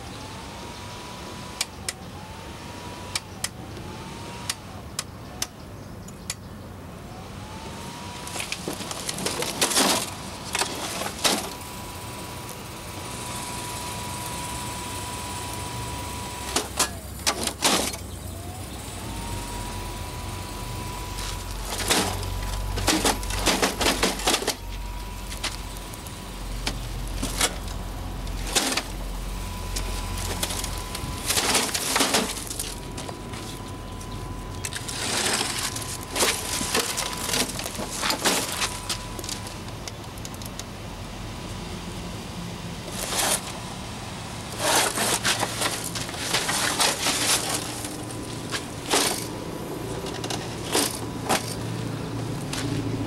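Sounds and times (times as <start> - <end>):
steady high whine: 0.0 - 53.0.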